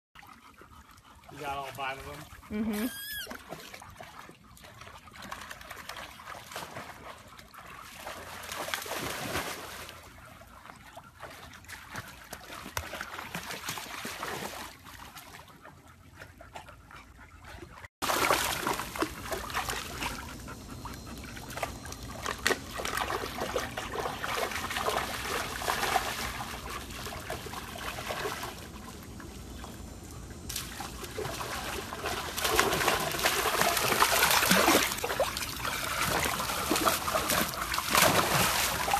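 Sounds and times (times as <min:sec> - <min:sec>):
pool water splashing: 0:00.2 - 0:15.6, 0:18.0 - 0:38.9.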